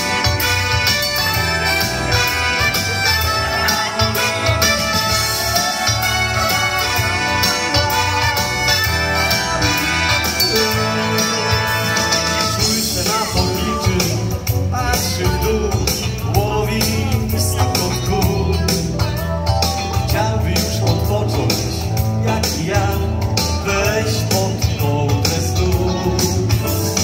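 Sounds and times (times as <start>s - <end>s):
pop backing track over loudspeakers: 0.0s - 27.0s
man singing into a microphone: 2.9s - 19.0s, 20.0s - 27.0s.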